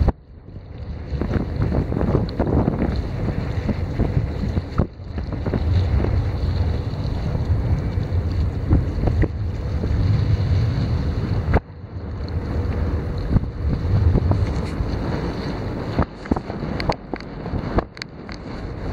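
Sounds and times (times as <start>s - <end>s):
water and waves: 0.0s - 18.9s
wind buffeting microphone: 0.0s - 18.9s.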